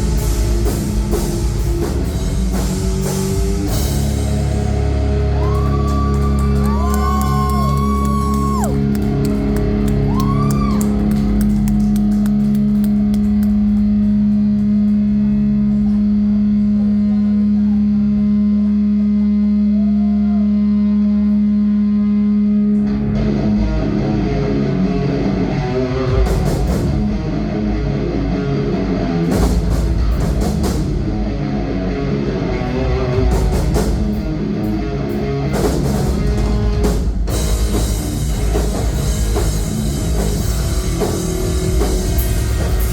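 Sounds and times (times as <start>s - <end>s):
rock band playing: 0.0s - 17.0s, 21.4s - 42.9s
held guitar note droning: 0.0s - 42.9s.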